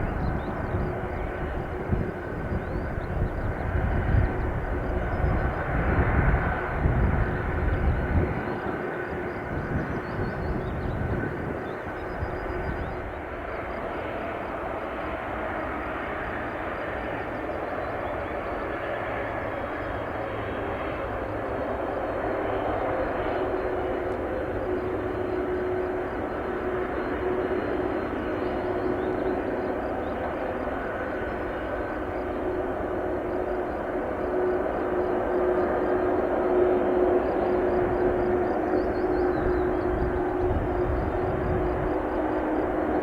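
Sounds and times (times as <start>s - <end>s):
faint high whine: 0.0s - 43.0s
jet engines running: 0.0s - 43.0s.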